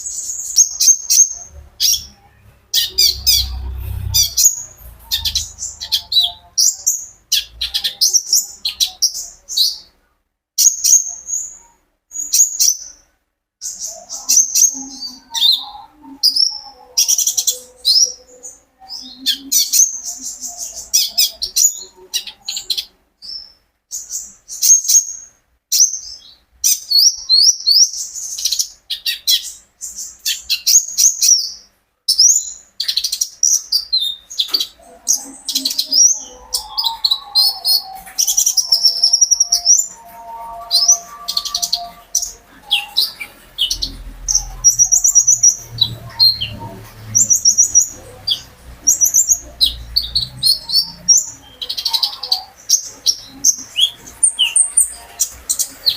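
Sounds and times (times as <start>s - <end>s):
bird chirping and trilling: 0.0s - 10.0s, 10.6s - 13.0s, 13.6s - 55.9s.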